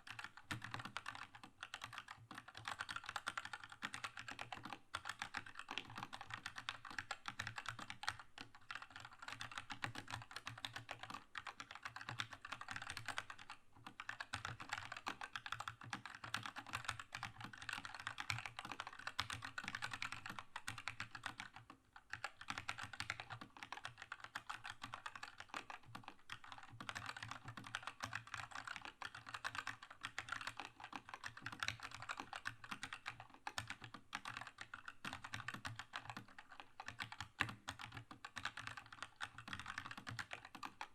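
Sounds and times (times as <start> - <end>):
mechanical keyboard typing: 0.1 - 40.9.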